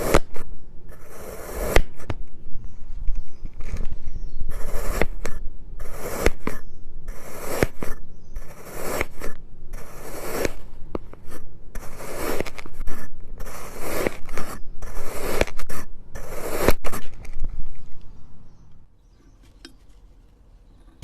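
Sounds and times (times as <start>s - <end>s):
blade scraping kinetic sand: 0.0s - 18.1s.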